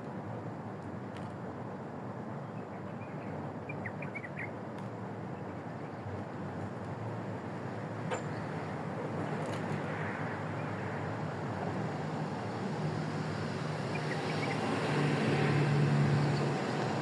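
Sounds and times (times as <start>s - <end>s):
background noise wash: 0.0s - 17.0s
low engine hum: 0.0s - 17.0s.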